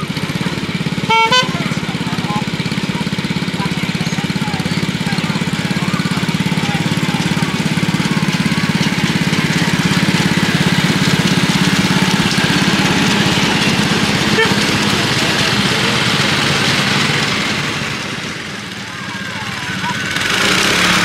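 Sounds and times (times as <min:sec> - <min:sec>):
miniature locomotive engine running: 0:00.0 - 0:21.0.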